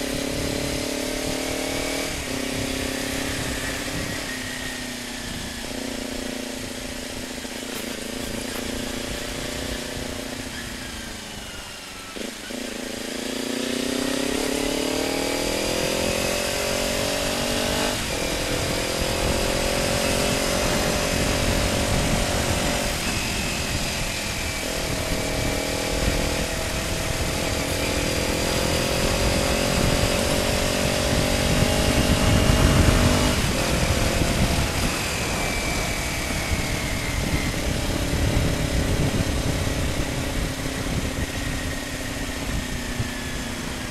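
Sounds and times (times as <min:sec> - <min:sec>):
wind rumble: 0:00.0 - 0:11.7, 0:13.8 - 0:43.9
motorcycle engine accelerating: 0:00.0 - 0:43.9.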